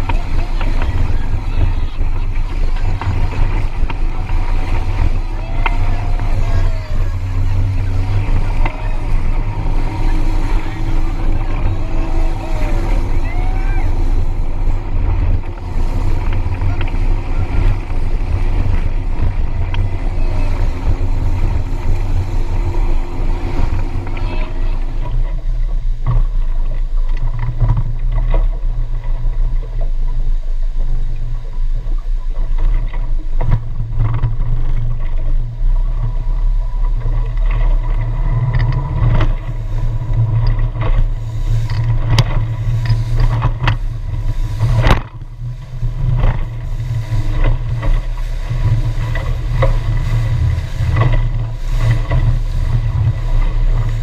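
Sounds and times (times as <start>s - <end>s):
motorboat engine drone: 0.0s - 54.0s
wind and water rushing: 0.0s - 54.0s.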